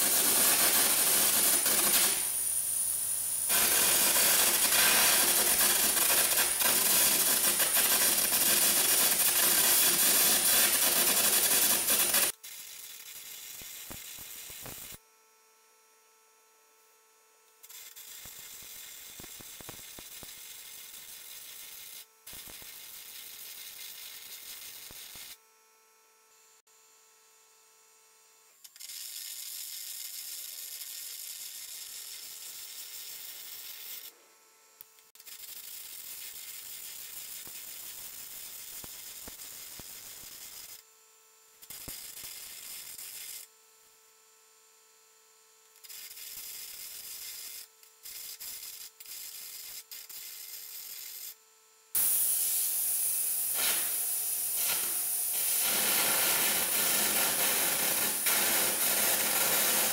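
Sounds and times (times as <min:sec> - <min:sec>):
carbon arc gouging crackling hiss: 0:00.0 - 0:15.0, 0:17.5 - 0:25.6, 0:28.6 - 0:40.9, 0:41.5 - 0:43.5, 0:45.6 - 0:59.9.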